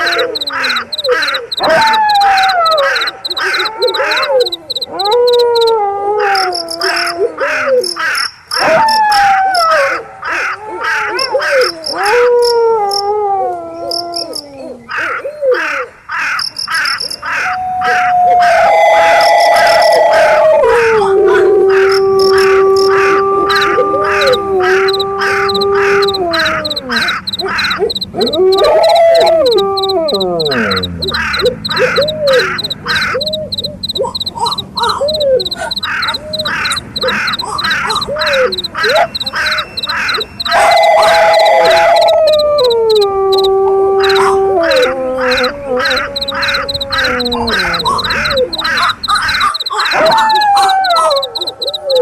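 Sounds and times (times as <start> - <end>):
crows cawing: 0.0 - 5.0, 6.3 - 12.2, 14.9 - 42.7, 44.0 - 51.4
crickets chirping: 0.0 - 10.0, 11.2 - 13.1, 13.8 - 14.5, 16.3 - 52.0
wolves howling: 0.0 - 15.9, 17.2 - 52.0.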